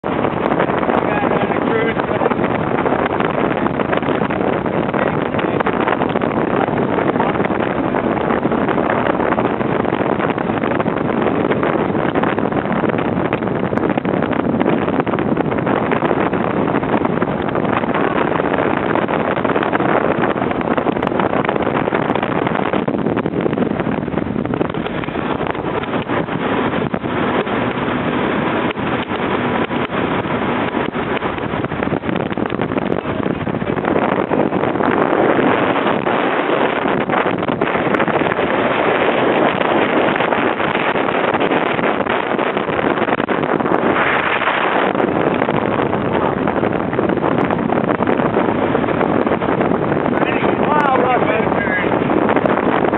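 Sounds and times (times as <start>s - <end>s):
motorboat engine running: 0.0s - 52.9s
water rushing: 0.0s - 52.9s
wind buffeting microphone: 0.0s - 52.9s.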